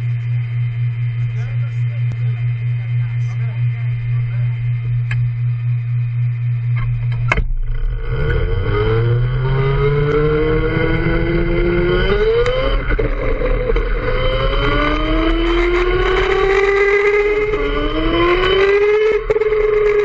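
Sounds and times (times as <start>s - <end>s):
go-kart motor accelerating: 3.6s - 20.0s.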